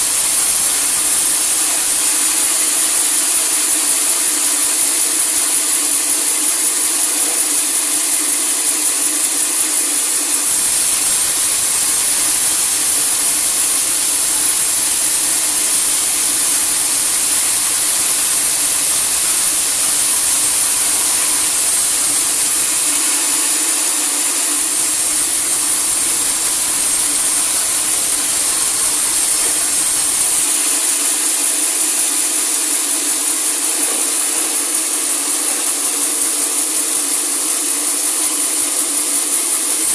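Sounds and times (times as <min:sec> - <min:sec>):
running machinery: 0:00.0 - 0:39.9
saw blade cutting wood: 0:00.0 - 0:39.9.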